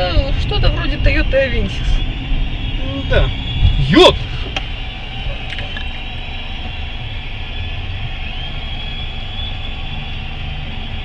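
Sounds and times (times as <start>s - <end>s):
car engine rumble: 0.0s - 11.0s
street traffic: 0.0s - 11.0s.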